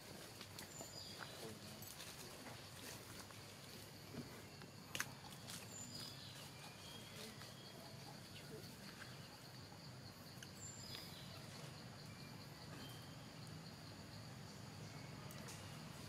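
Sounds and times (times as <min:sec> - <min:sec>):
faint bird chirps: 0:00.2 - 0:16.0.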